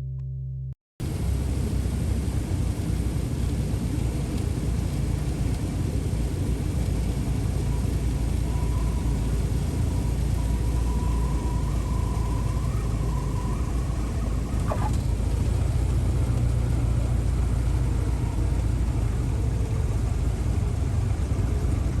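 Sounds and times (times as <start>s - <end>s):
small plane engine droning: 0.0s - 22.0s.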